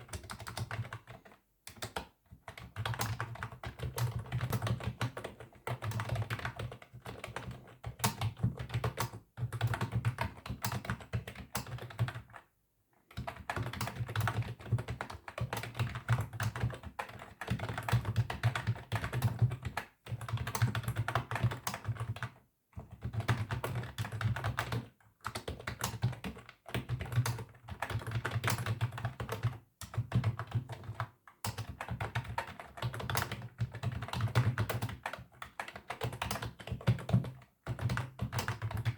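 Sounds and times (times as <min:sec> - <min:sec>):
typing on computer keyboard: 0:00.0 - 0:12.5, 0:13.1 - 0:38.9.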